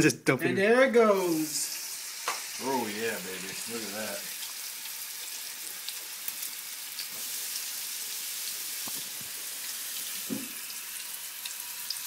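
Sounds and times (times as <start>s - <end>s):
oil sizzling: 0.8s - 12.0s.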